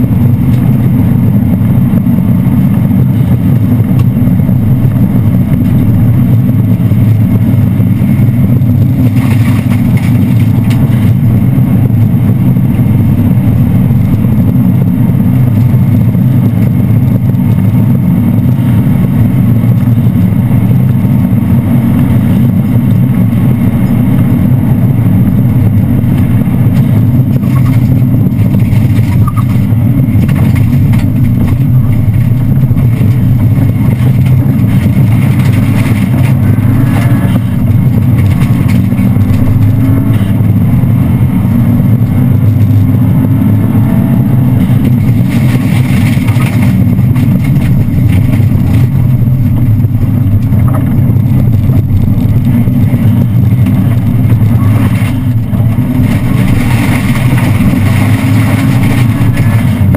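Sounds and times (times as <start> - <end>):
rally car engine running hard: 0.0 - 59.9.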